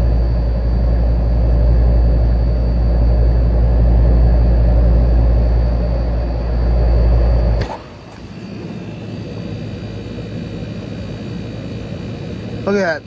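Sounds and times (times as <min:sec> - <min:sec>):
window air conditioner running: 0:00.0 - 0:13.0.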